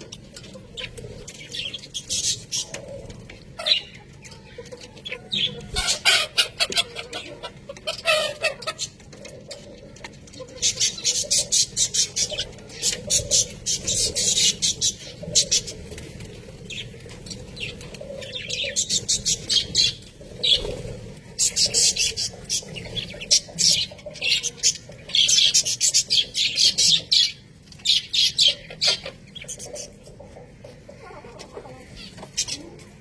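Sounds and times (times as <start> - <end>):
budgerigars chattering: 3.6 - 9.6, 10.4 - 32.8.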